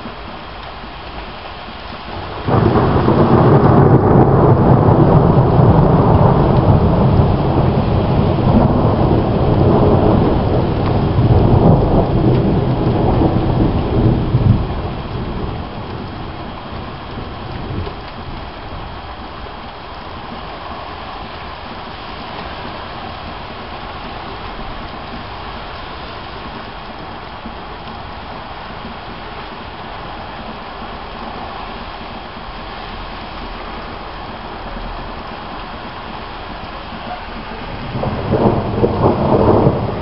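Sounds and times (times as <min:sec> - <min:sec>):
heavy rain hissing: 0:00.0 - 0:40.0
thunder rumbling: 0:00.0 - 0:40.0.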